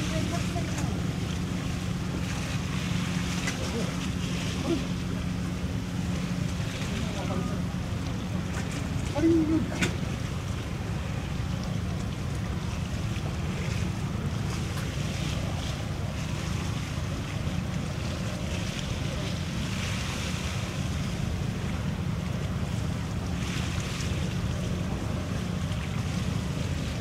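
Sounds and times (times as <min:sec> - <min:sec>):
choppy water and waves: 0:00.0 - 0:27.0.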